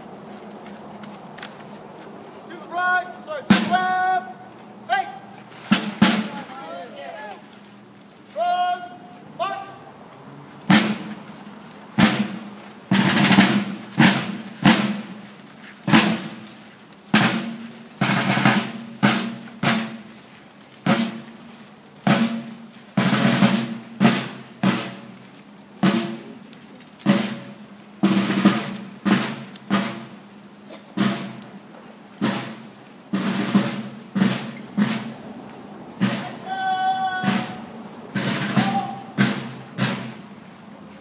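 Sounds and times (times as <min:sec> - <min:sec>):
field drums marching cadence: 0:00.0 - 0:41.0.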